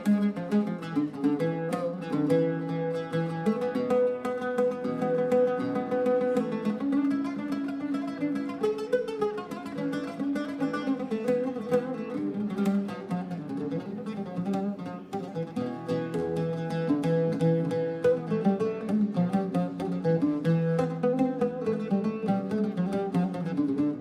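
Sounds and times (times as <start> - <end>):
plucked string instrument music: 0.0 - 24.0.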